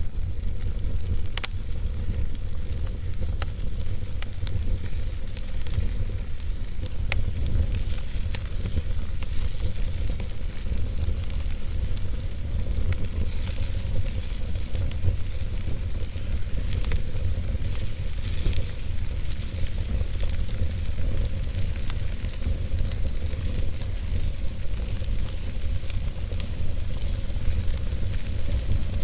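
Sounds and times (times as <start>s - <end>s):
small pops of fire: 0.0s - 29.0s
steady low rumble: 0.0s - 29.0s
wood fire crackling and hissing: 0.0s - 29.0s.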